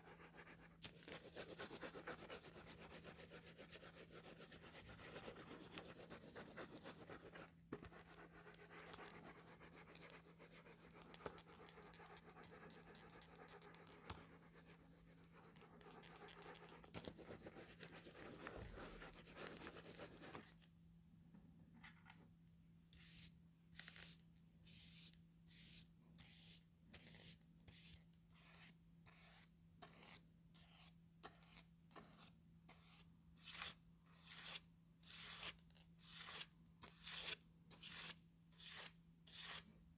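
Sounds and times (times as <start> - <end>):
comb scratching across paper: 0.0 - 20.7, 24.8 - 39.7.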